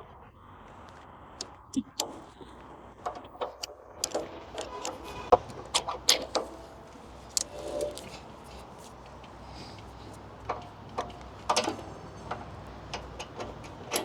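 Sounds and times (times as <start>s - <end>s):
sharp metallic clicks and knocks: 1.4s - 14.0s.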